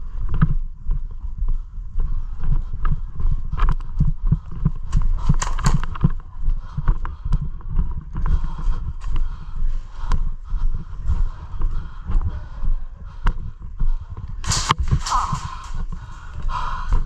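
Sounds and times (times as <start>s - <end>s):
running footsteps thumping: 2.6s - 17.0s.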